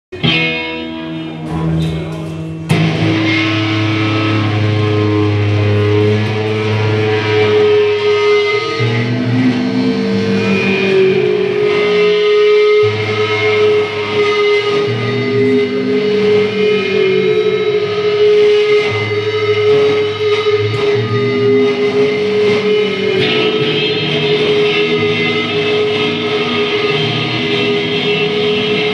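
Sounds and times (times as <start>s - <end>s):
rock band playing live: 0.1s - 28.9s
strummed electric guitar chord: 0.2s - 28.9s.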